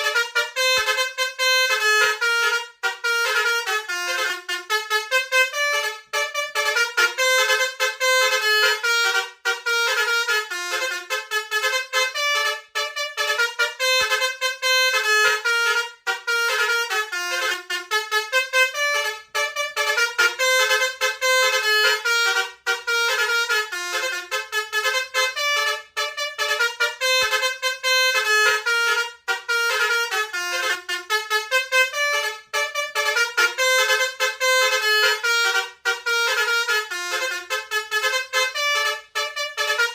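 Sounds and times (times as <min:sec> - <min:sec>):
multi-tone bus horn melody: 0:00.0 - 0:39.9.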